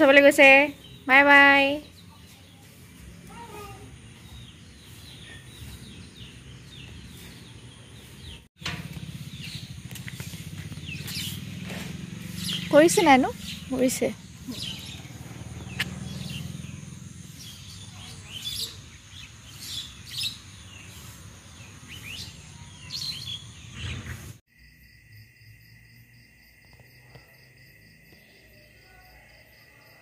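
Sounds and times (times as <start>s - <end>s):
birds calling: 0.0s - 24.4s.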